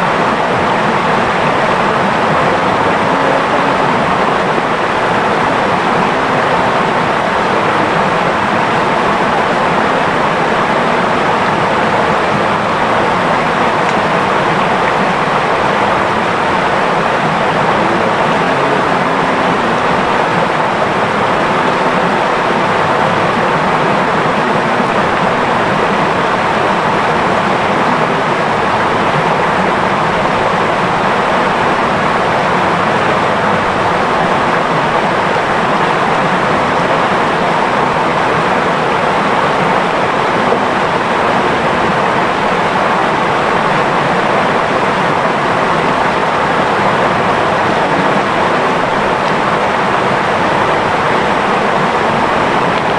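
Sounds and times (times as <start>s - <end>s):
river water babbling: 0.0s - 52.9s.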